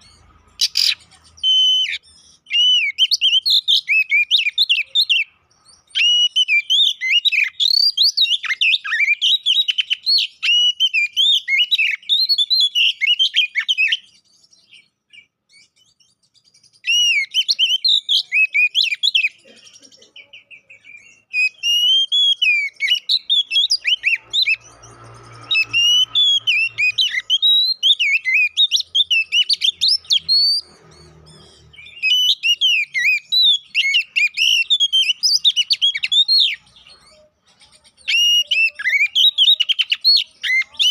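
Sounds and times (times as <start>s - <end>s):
bird singing whistled notes: 0.0s - 19.4s, 20.4s - 40.9s.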